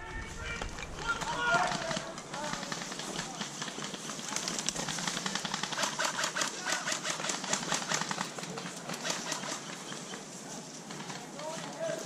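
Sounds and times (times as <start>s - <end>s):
airsoft guns firing: 0.0s - 10.2s.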